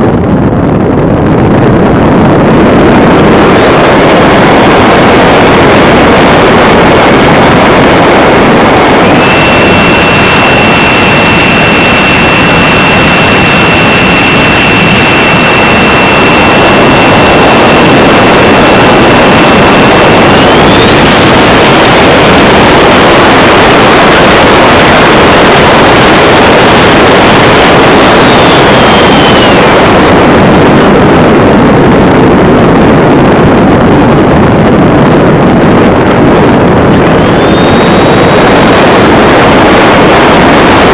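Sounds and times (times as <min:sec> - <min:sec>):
high fan whine: 0:00.0 - 0:40.9
model jet fan rushing: 0:00.0 - 0:40.9.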